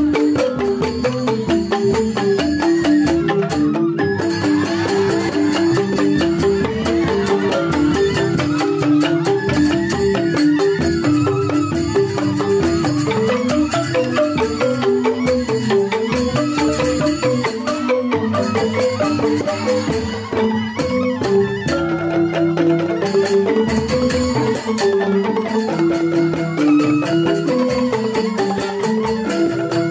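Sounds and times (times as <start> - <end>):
bamboo xylophones playing: 0.0 - 29.9
percussion: 0.0 - 29.9.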